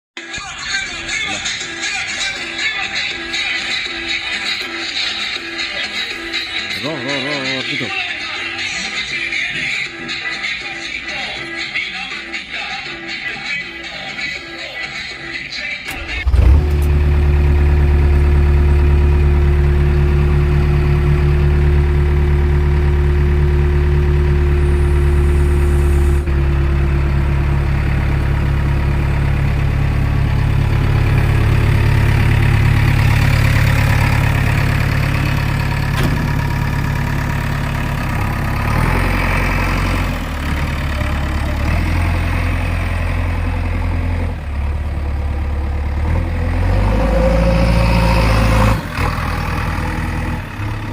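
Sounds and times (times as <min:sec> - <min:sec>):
diesel engine running: 0:00.2 - 0:50.9.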